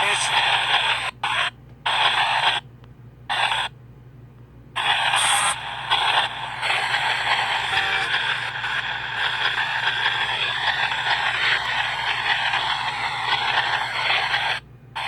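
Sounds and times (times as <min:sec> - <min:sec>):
hissing radio static: 0:00.0 - 0:02.6, 0:03.3 - 0:03.7, 0:04.8 - 0:15.0
steady low hum: 0:00.0 - 0:15.0.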